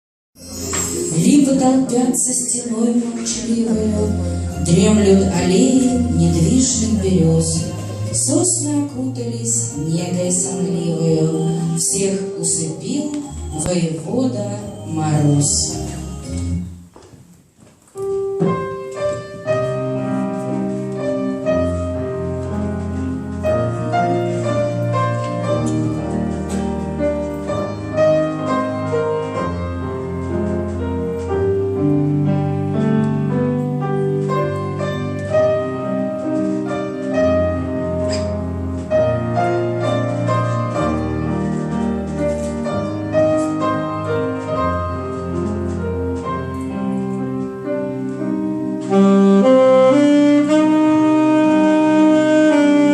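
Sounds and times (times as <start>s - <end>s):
slow piano piece: 0.4s - 52.9s.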